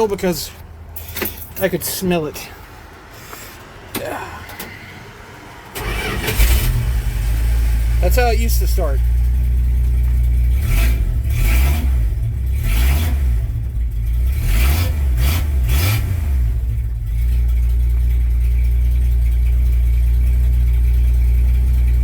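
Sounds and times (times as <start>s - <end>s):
truck engine revving and idling: 0.0s - 22.0s.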